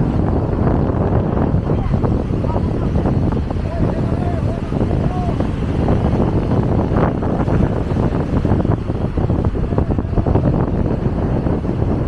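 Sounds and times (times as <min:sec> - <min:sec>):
breaking surf: 0:00.0 - 0:12.0
wind buffeting microphone: 0:00.0 - 0:12.0.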